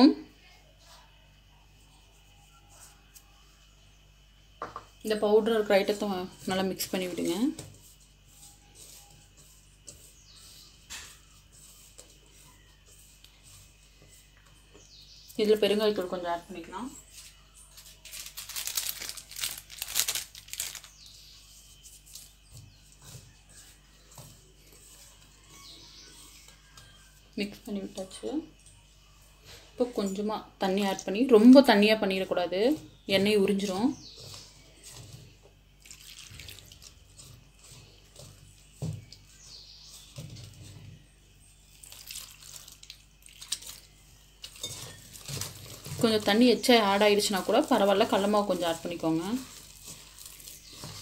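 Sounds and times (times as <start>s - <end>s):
fingers mixing flour in a metal bowl: 0.0s - 4.0s, 4.7s - 18.1s, 20.7s - 51.0s
wet batter squishing: 5.6s - 29.4s, 30.9s - 51.0s.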